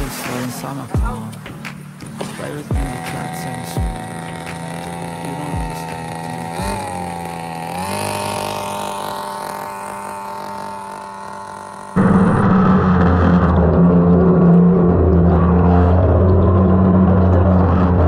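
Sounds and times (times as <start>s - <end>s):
engine running: 0.0s - 18.0s
rough loud engine: 0.0s - 18.0s.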